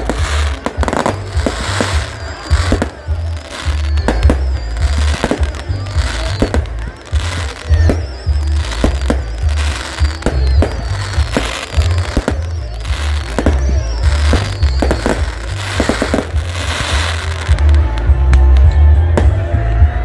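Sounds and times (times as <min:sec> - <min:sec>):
firework crackling: 0:00.0 - 0:19.4
high wavering whistles: 0:01.2 - 0:17.3.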